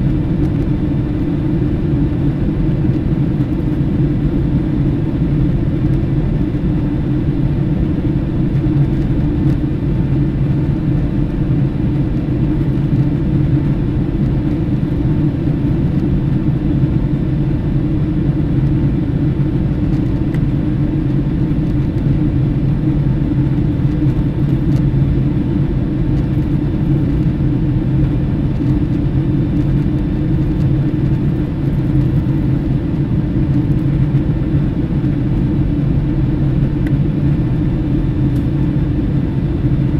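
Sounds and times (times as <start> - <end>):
vehicle rumble: 0.0 - 39.9.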